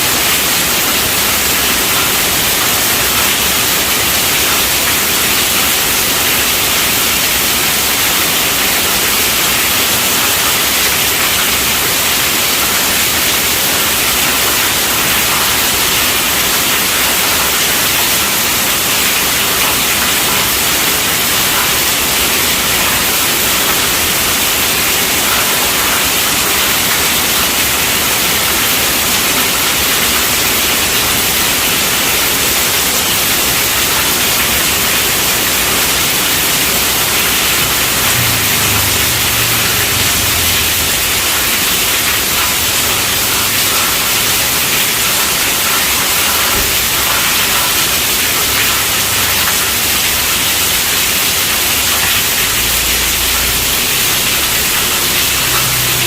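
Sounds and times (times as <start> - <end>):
heavy rain on a tent roof: 0.0 - 56.0.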